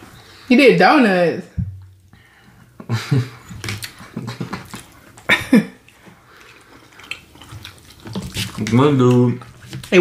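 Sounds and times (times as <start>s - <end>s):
people chewing: 1.8s - 10.0s.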